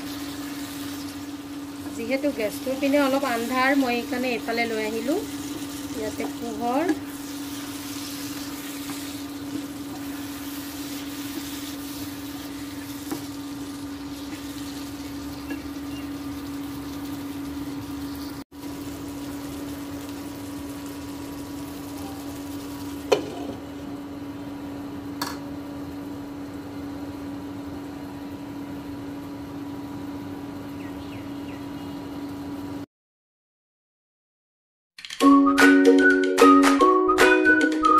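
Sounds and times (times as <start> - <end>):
pan simmering and bubbling: 0.0 - 30.7
cooktop electrical hum: 0.0 - 32.9.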